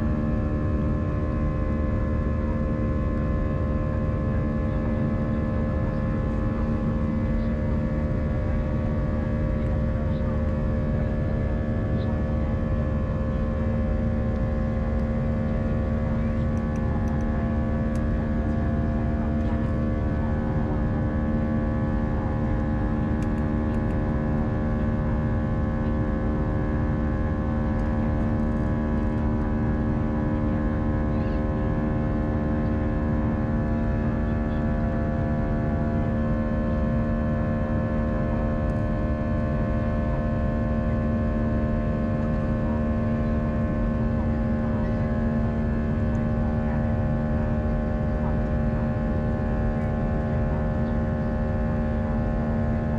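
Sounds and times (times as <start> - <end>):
aircraft cabin engine drone: 0.0 - 52.9
steady tonal hum: 0.0 - 52.9.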